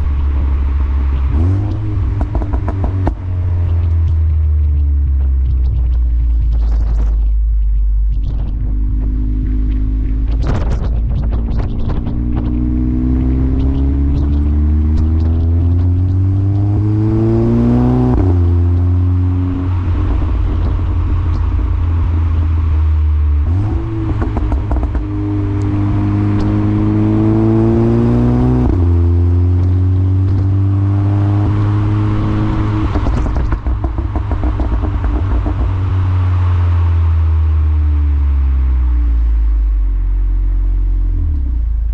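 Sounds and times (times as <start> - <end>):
car engine revving: 0.0 - 41.9
exhaust overrun crackles: 0.0 - 41.9.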